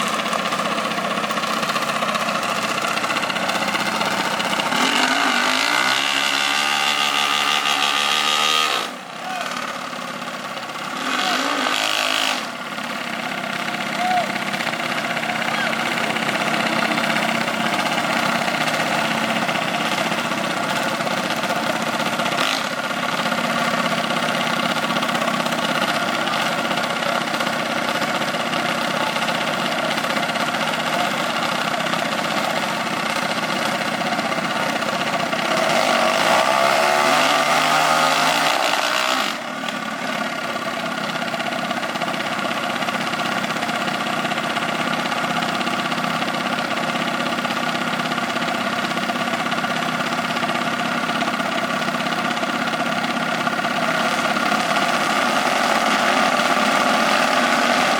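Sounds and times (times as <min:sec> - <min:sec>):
engine idling and revving: 0:00.0 - 0:57.9.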